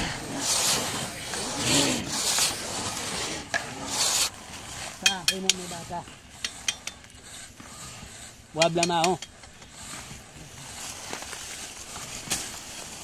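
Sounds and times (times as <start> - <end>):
rasping strokes: 0.0 - 13.0.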